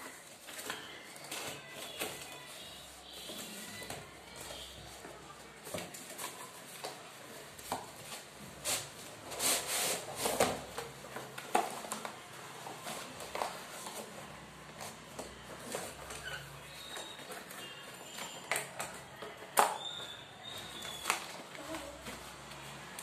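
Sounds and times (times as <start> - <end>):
cardboard packaging being handled: 0.0 - 23.0.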